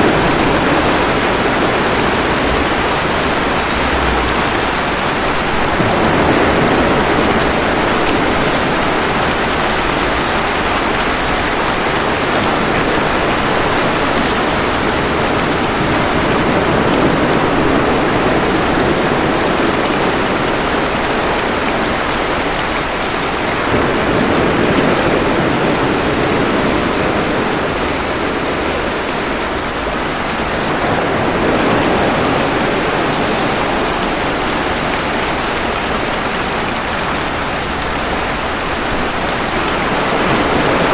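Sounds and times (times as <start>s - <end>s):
ocean waves washing ashore: 0.0s - 40.9s
steady rain: 0.0s - 40.9s.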